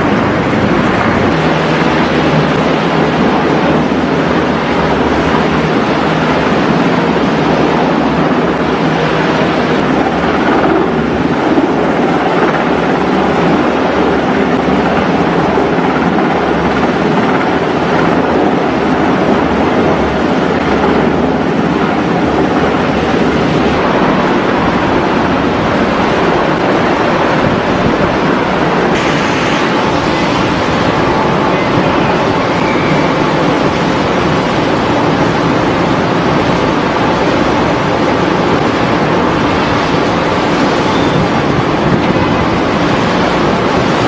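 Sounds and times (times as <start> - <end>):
churning sea: 0.0 - 44.0
wind buffeting microphone: 0.0 - 44.0.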